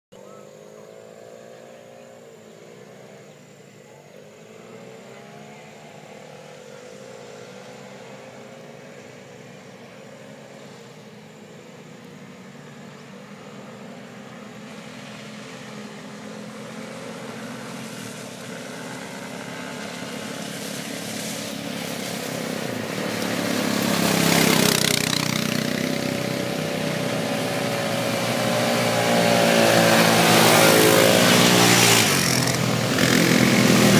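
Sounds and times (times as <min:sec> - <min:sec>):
quad bike engines revving: 0:00.2 - 0:33.9.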